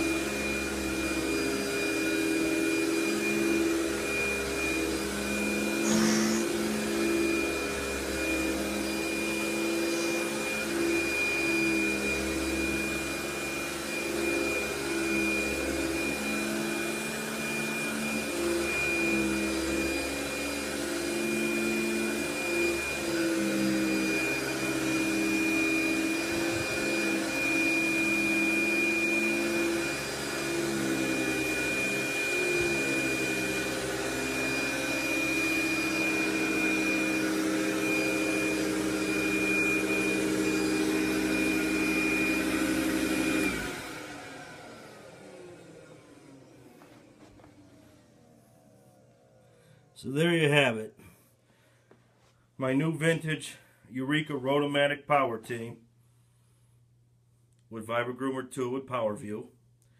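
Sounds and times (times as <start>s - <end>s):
vacuum cleaner motor whining: 0.0s - 50.8s.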